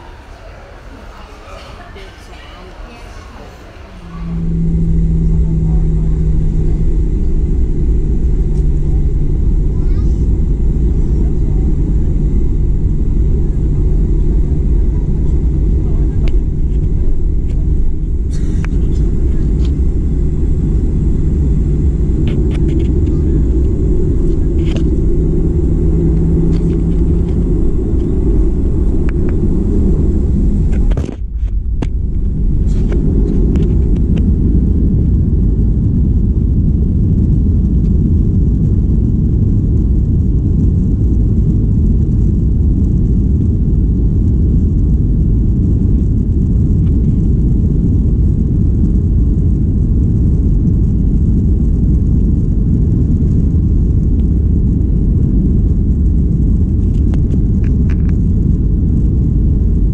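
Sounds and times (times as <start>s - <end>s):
jet engine and airflow rumble: 0.0s - 59.9s.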